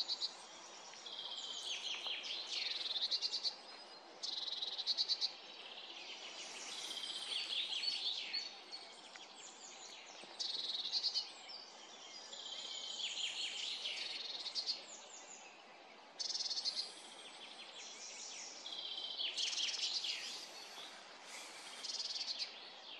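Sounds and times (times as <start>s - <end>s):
songbirds singing: 0.0s - 22.9s.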